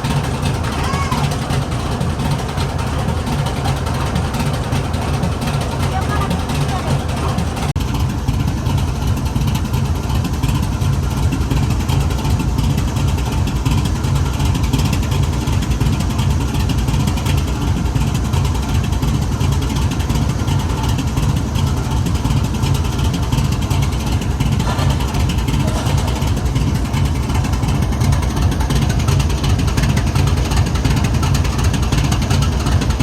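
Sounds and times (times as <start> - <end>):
diesel locomotives idling: 0.0 - 33.0.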